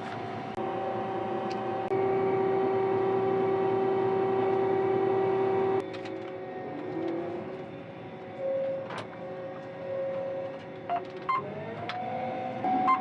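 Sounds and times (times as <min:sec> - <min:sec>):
combine harvester hum: 0:00.0 - 0:13.0
loud steady drone: 0:00.3 - 0:12.7.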